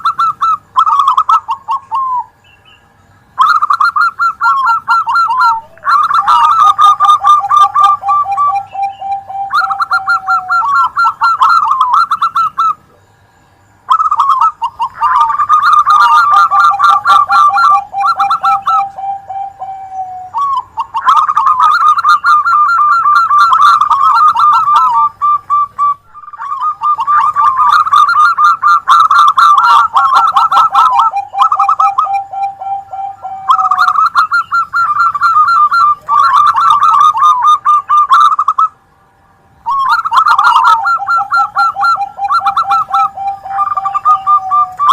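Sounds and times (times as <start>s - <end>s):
doves cooing: 0.0s - 38.8s, 39.6s - 44.9s.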